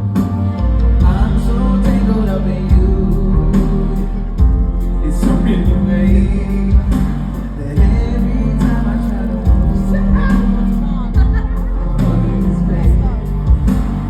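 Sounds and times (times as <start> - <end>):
drum beat: 0.0 - 14.0
heavy bass line: 0.0 - 14.0
live pop band playing: 0.0 - 14.0.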